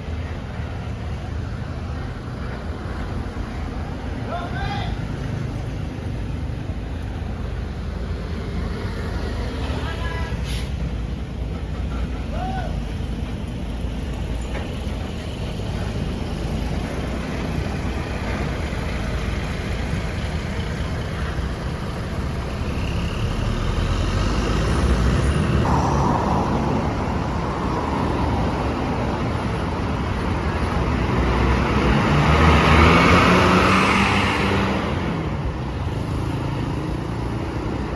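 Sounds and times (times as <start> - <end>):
passing vehicles engine and tyre noise: 0.0 - 37.9.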